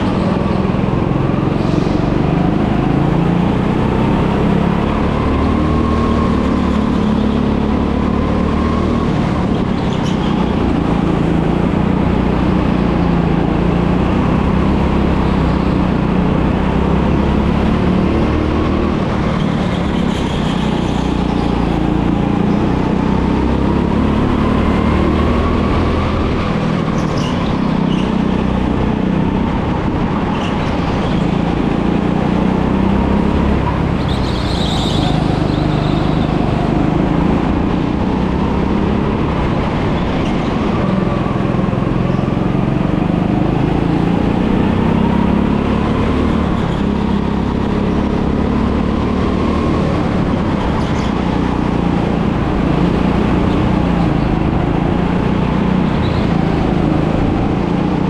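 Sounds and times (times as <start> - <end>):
go-kart engine running: 0.0 - 58.0
wind and road noise: 0.0 - 58.0.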